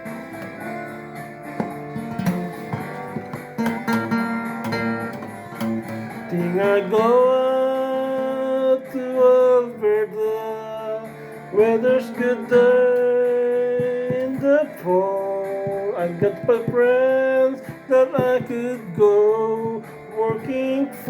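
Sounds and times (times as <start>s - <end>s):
acoustic guitar strummed and picked: 0.0s - 21.0s
person singing: 0.0s - 21.0s.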